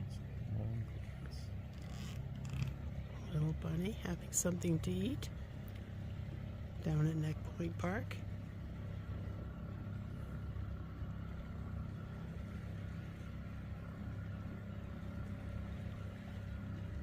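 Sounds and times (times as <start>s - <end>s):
faint steady tones: 0.0s - 17.0s
vehicle engine humming: 0.0s - 17.0s.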